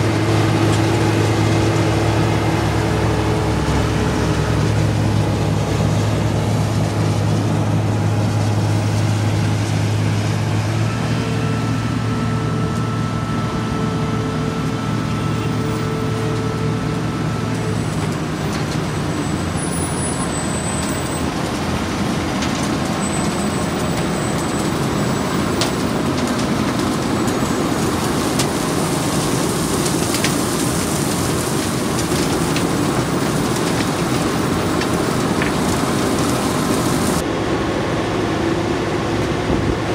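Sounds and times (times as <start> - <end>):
asphalt pouring into truck bed: 0.0 - 37.6
heavy diesel engines running: 0.0 - 39.9.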